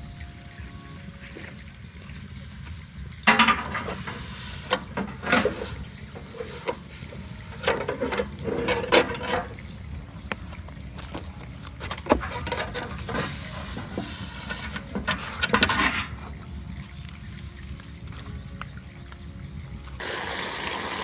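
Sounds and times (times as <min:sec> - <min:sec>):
liquid sloshing in a pot: 0:01.2 - 0:18.7.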